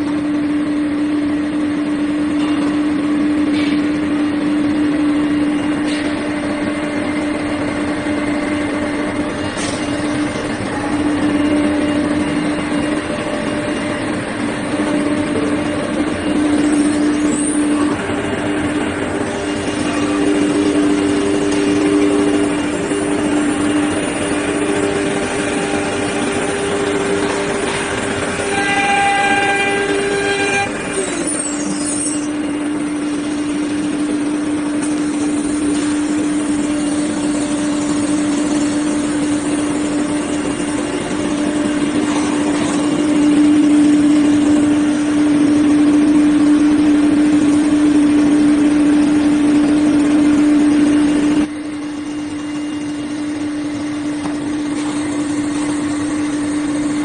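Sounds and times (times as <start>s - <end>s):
cnc router whining: 0.0s - 57.0s.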